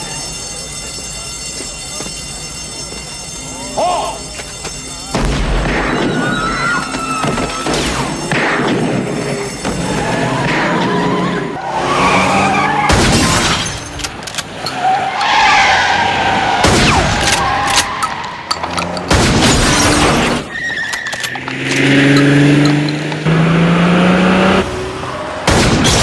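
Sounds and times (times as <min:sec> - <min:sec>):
car engine and tyres: 0:00.0 - 0:26.0.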